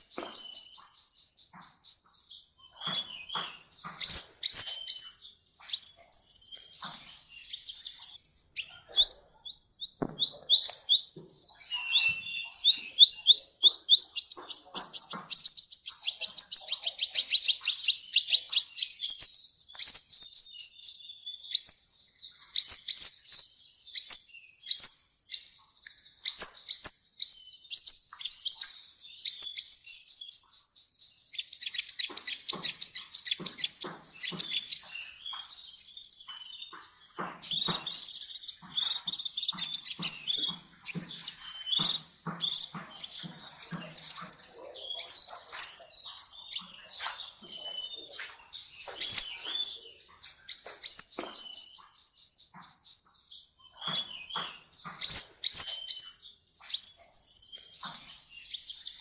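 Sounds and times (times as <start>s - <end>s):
sunbird singing: 0.0s - 59.0s.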